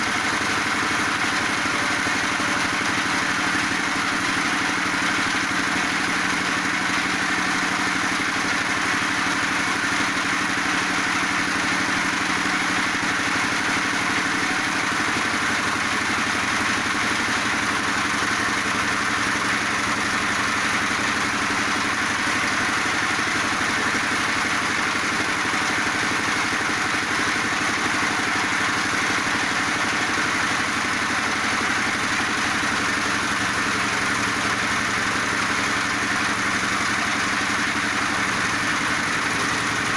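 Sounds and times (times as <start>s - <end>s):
pellet machine droning: 0.0s - 39.9s.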